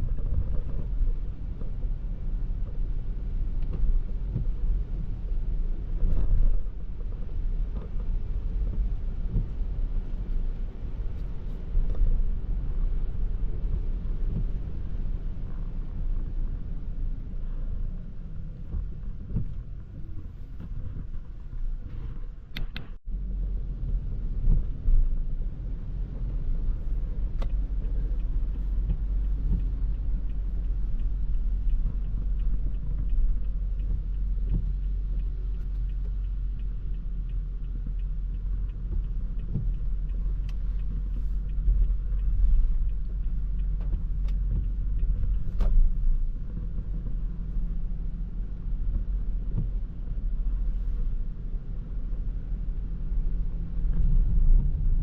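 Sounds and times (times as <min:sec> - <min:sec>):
tyre rumble on wet road: 0:00.0 - 0:55.0.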